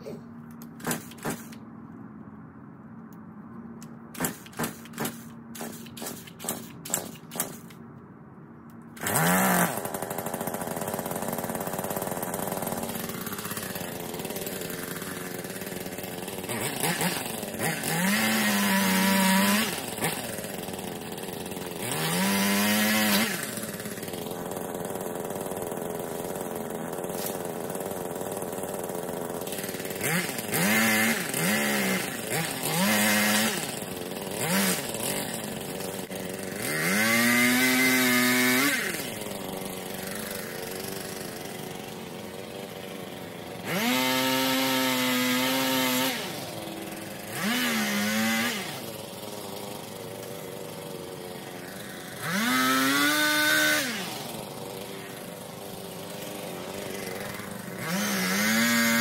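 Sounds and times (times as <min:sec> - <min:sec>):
chainsaw engine revving: 0:00.0 - 0:01.6, 0:04.1 - 0:07.8, 0:09.0 - 0:59.0.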